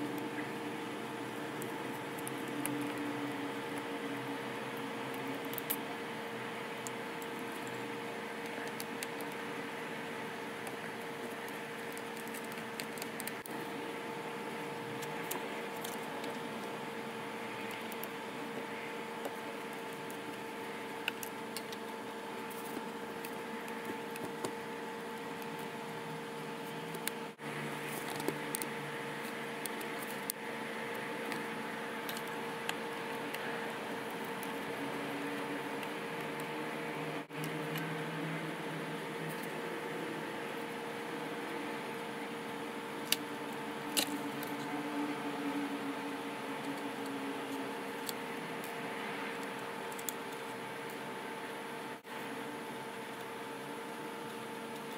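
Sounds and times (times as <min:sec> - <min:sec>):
steady two-tone hum: 0:00.0 - 0:54.9.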